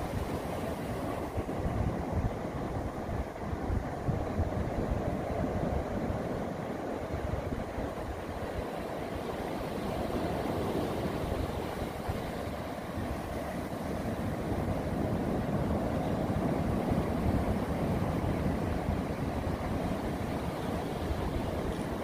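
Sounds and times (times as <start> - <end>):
ocean surf washing onto beach: 0.0 - 22.0
wind on microphone: 0.0 - 22.0.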